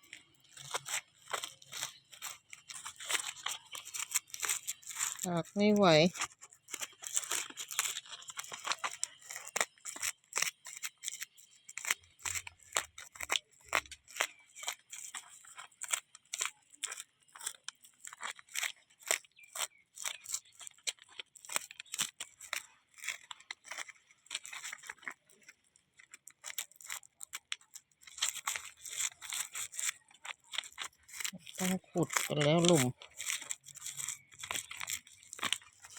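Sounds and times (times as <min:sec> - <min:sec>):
dry material crackling and tearing: 0:00.0 - 0:35.9.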